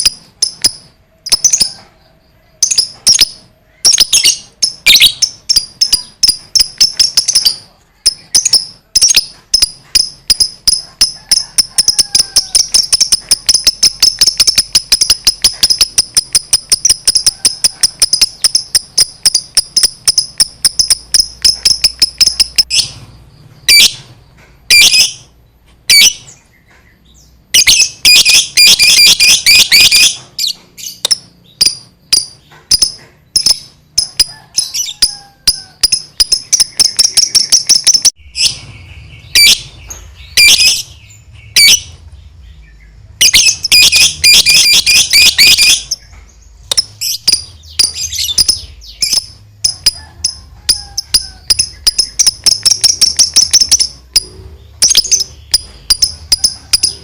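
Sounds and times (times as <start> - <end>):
lovebird chattering: 0.0 - 1.9, 2.6 - 23.0, 23.6 - 24.1, 27.6 - 41.9, 43.2 - 57.0.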